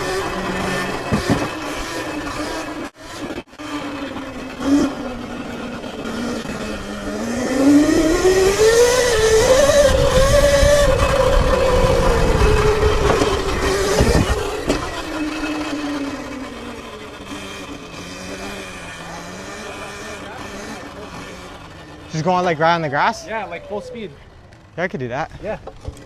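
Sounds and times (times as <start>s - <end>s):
electric motorbike motor whining: 0.0s - 26.0s.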